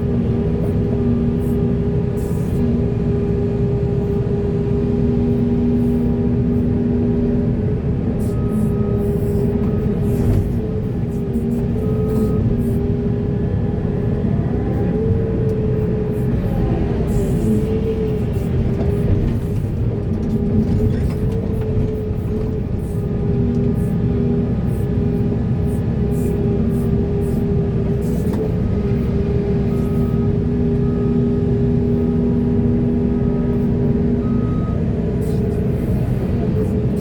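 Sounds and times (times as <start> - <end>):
diesel engine rumble: 0.0 - 37.0.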